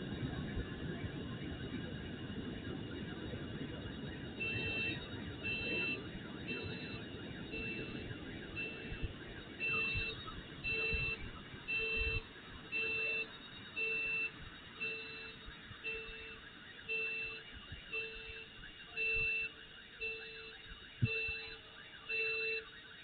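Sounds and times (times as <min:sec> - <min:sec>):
car alarm beeping: 0:00.0 - 0:23.0.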